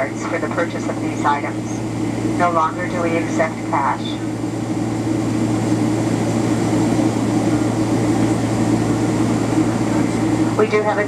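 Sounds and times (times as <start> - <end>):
jet airliner cabin drone: 0.0 - 11.0.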